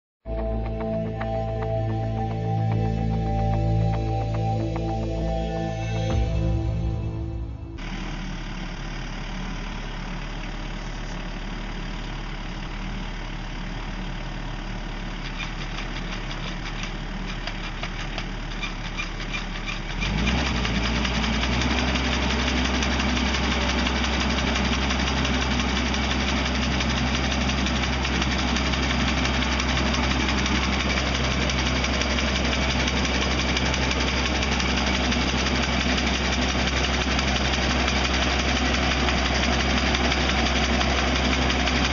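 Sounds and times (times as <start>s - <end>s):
tractor engine running: 0.3s - 41.9s.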